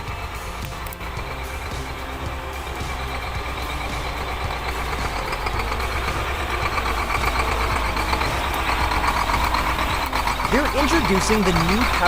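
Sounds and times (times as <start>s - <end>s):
heavy machine engine rumbling: 0.0s - 12.0s.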